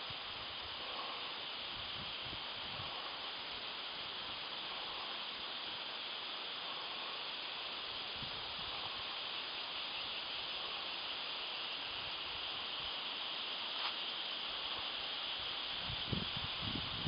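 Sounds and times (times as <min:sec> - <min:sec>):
forest ambience hiss: 0:00.0 - 0:17.0.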